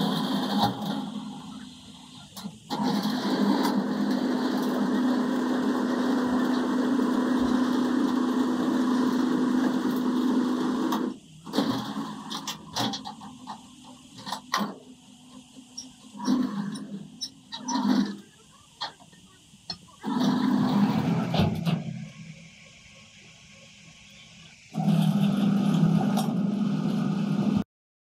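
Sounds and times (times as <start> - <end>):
machine motor humming: 0.0 - 27.6.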